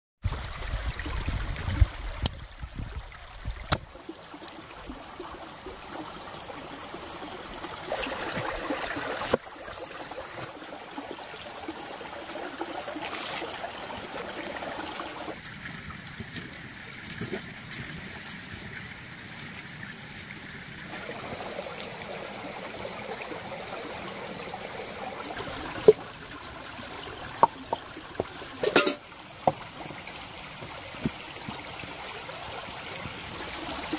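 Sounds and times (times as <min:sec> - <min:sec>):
stream trickling over rocks: 0:00.3 - 0:33.9.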